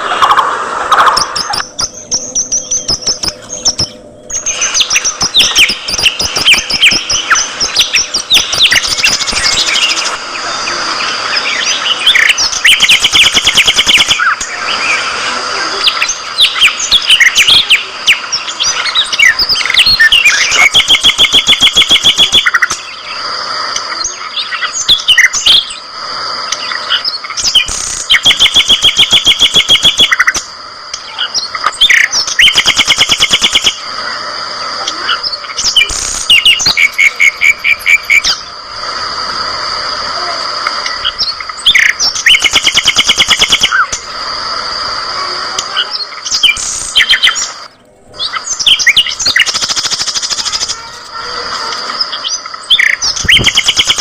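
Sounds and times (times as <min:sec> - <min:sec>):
budgerigars chirping and chattering: 0:00.0 - 0:23.1, 0:26.5 - 0:38.5, 0:40.8 - 0:44.0, 0:45.6 - 0:54.0
rapid pulsed trills: 0:00.0 - 0:54.0.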